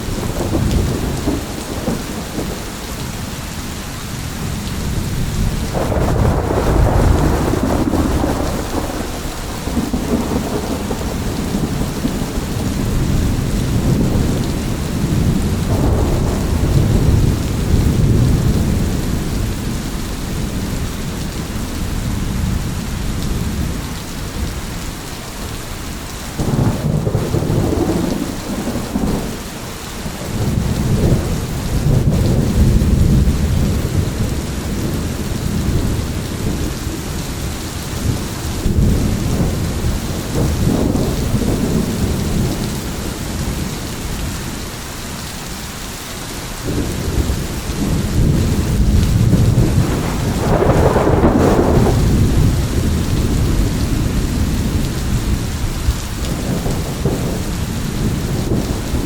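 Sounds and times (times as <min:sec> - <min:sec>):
rolling thunder: 0:00.0 - 0:02.9, 0:04.4 - 0:25.0, 0:25.9 - 0:44.7, 0:46.6 - 0:59.0
steady rain: 0:00.0 - 0:59.0.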